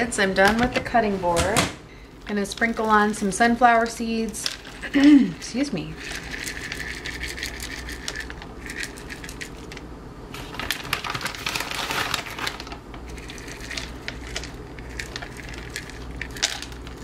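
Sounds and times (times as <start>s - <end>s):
low steady hum: 0.0s - 17.0s
plastic bag crinkling: 2.2s - 17.0s.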